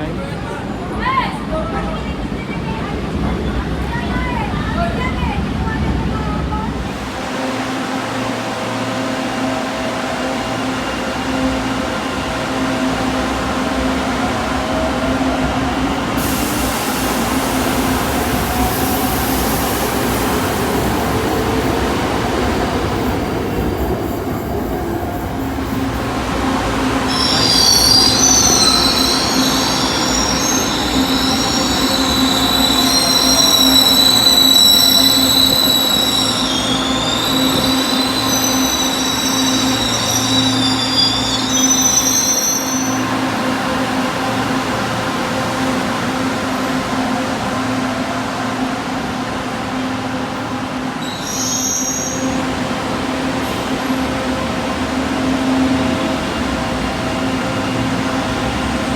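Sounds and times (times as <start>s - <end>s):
electric train humming: 0.0s - 58.9s
train wheels squealing on rails: 6.9s - 58.9s.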